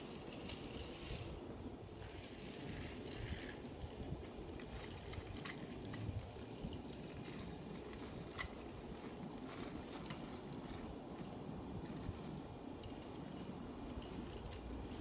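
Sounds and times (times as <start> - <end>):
toy train wheels rumbling: 0.0 - 15.0.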